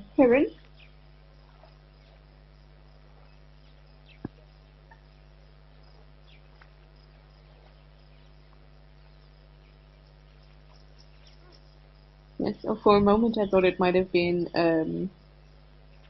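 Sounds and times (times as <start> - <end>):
faint high chirps: 0.0 - 16.0
steady low hum: 0.0 - 16.0.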